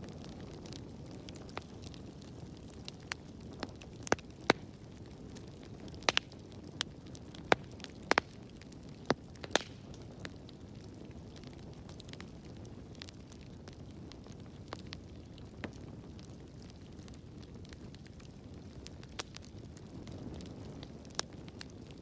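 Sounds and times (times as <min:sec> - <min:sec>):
fire low rumble: 0:00.0 - 0:22.0
wood fire crackles and pops: 0:00.0 - 0:22.0.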